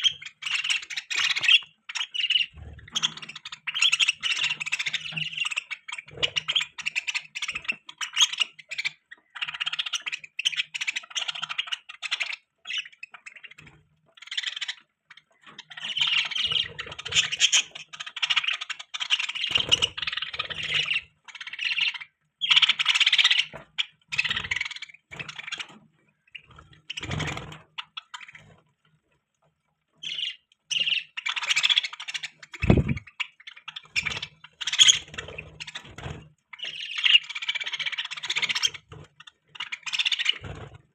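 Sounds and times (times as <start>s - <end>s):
budgerigars chattering and chirping: 0.0s - 28.6s, 29.9s - 40.8s.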